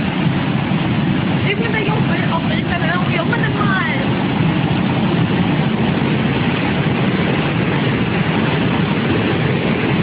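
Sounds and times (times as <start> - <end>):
flood torrent roaring through channel: 0.0 - 10.0.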